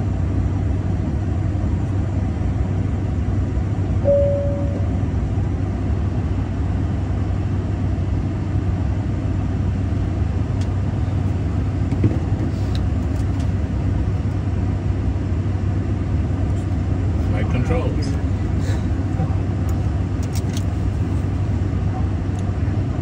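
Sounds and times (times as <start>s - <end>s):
airliner cockpit rumble and hum: 0.0s - 23.0s.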